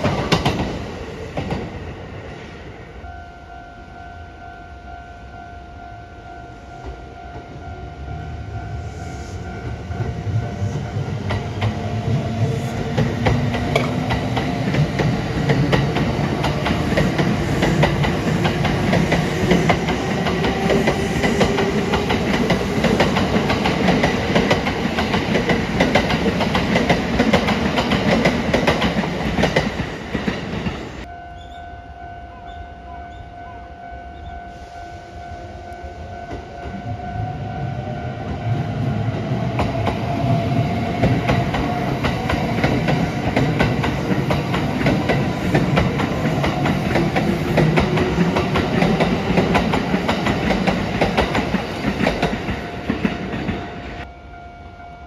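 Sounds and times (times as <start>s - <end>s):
trains rumbling and clattering: 0.0s - 54.8s
two-tone crossing warning bell: 3.0s - 28.9s, 31.0s - 55.0s.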